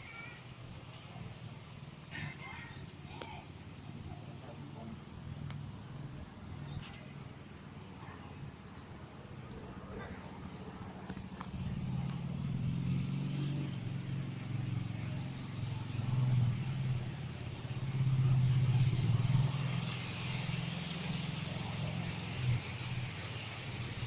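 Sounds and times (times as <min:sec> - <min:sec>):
motor vehicle engine running: 0:00.0 - 0:24.0.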